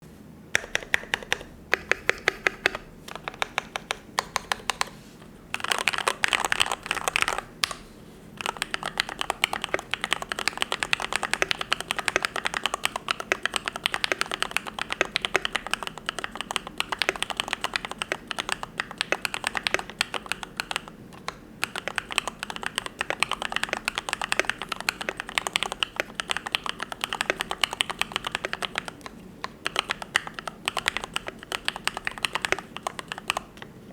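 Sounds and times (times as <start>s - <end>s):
mechanical keyboard typing: 0.5s - 7.8s, 8.4s - 33.7s.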